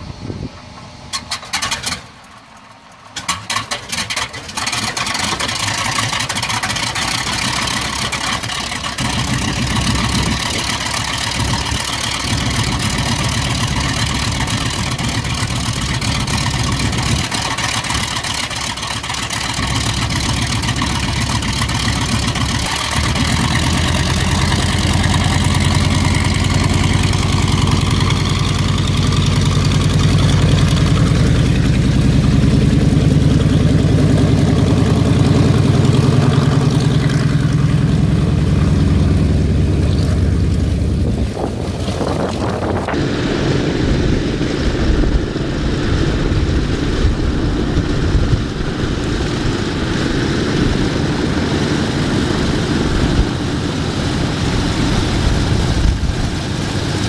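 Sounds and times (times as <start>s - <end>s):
radial aircraft engine starting and idling: 0.0s - 57.0s.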